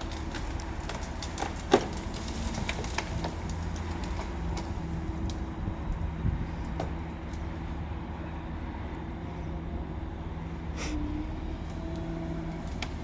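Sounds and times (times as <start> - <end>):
crane engine rumbling: 0.0 - 13.0.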